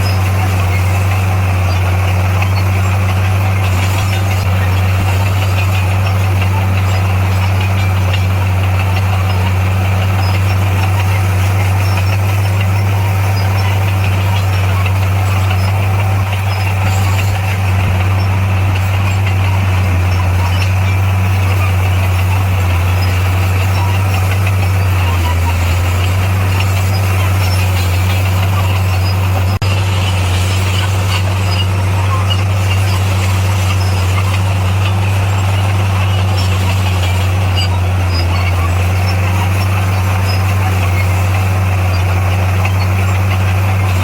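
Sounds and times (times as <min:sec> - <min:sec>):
heavy diesel engine droning: 0:00.0 - 0:44.0.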